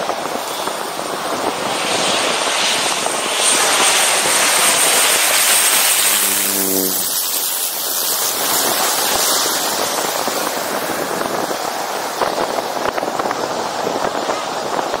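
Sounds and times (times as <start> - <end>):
gusts buffeting microphone: 0.0 - 15.0
rushing wind: 0.0 - 15.0.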